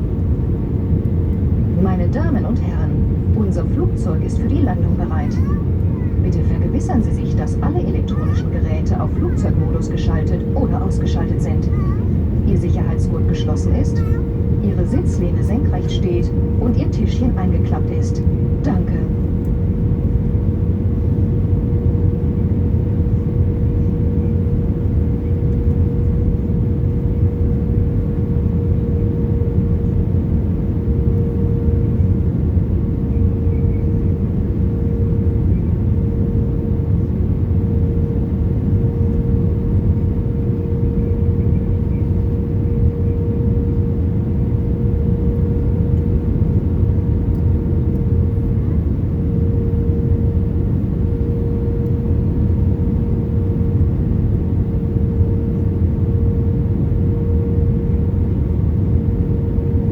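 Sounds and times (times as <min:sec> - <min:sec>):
airplane cabin rumble: 0:00.0 - 0:59.9
constant hum-like tone: 0:00.0 - 0:59.9.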